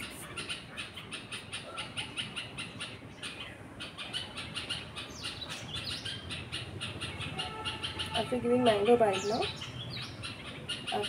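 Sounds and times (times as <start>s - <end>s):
young bird chirping: 0.0s - 11.0s.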